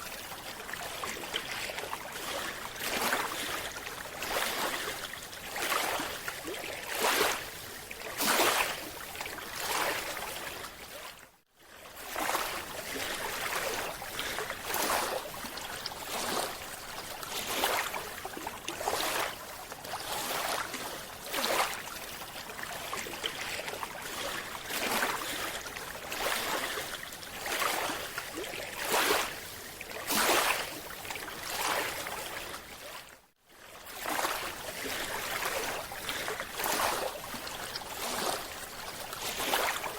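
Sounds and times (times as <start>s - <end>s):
water sloshing and bubbling: 0.0s - 39.9s.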